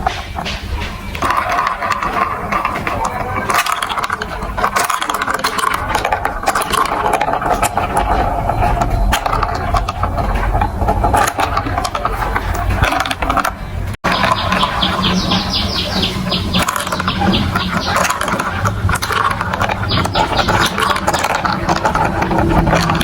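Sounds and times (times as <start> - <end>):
marbles rolling down plastic track: 0.0 - 14.6, 16.6 - 23.0.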